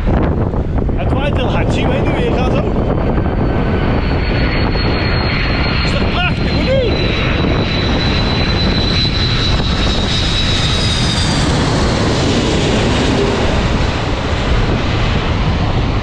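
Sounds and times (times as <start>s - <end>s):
airliner engines rushing overhead: 0.0s - 16.0s.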